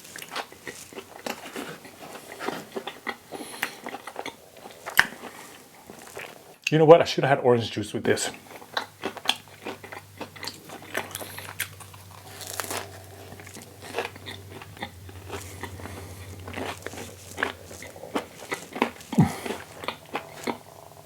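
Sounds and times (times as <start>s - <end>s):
crisp biting and crunchy chewing: 0.0s - 6.6s, 8.2s - 21.0s
low steady hum: 0.0s - 21.0s.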